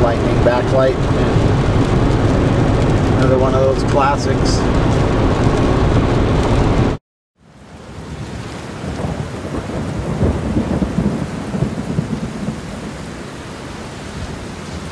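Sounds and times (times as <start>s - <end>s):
rolling thunder rumble: 0.0s - 7.0s, 7.9s - 13.3s
steady rain: 0.0s - 14.9s.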